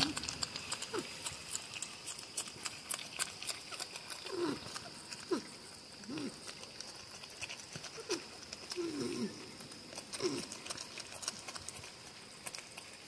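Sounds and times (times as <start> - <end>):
porcupines crunching peanuts: 0.0 - 13.0
porcupines whining: 0.0 - 13.0.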